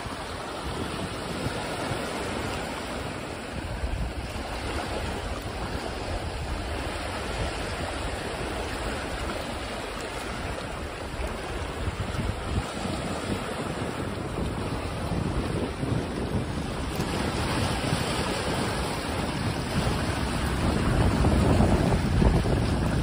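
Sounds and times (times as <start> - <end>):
small waves lapping on shore: 0.0 - 23.0
wind rumbling on microphone: 0.0 - 23.0.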